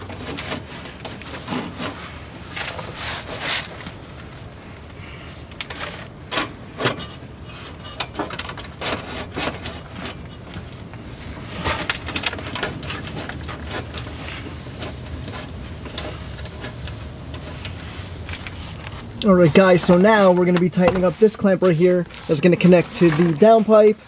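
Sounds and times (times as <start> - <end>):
steady low hum: 0.0 - 23.4.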